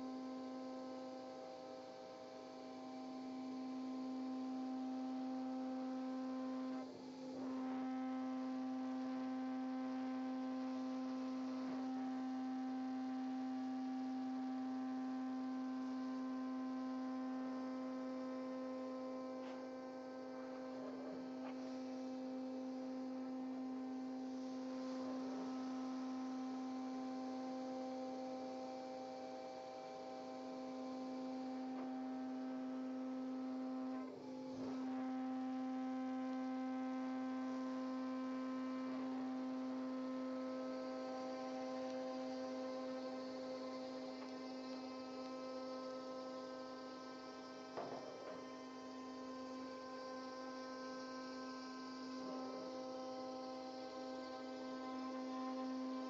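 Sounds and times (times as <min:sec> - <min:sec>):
router spindle high whine: 0:00.0 - 0:56.0.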